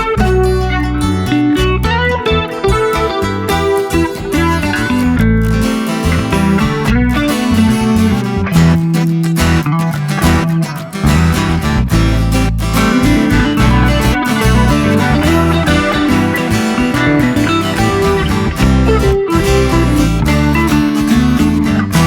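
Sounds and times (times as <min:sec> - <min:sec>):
acoustic guitar music: 0:00.0 - 0:22.0
bass line: 0:00.0 - 0:22.0.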